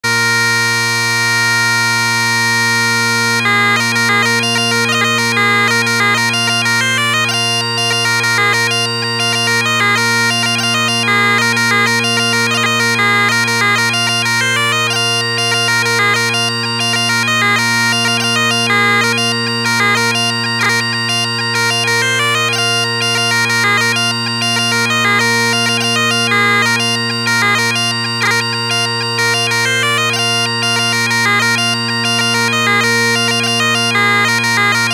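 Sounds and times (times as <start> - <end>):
bagpipes playing a jig: 0.0 - 34.9.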